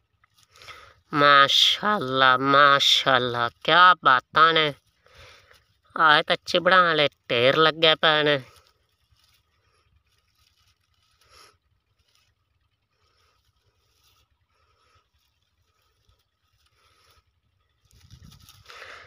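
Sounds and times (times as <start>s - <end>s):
hands rustling dry grass: 0.0s - 19.0s.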